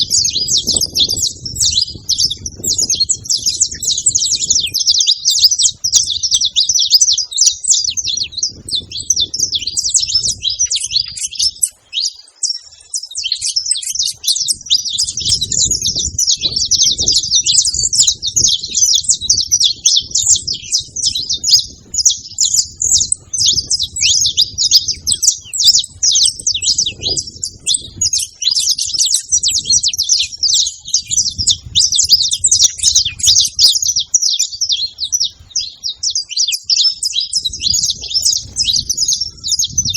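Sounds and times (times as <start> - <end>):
finches singing: 0.0 - 39.9.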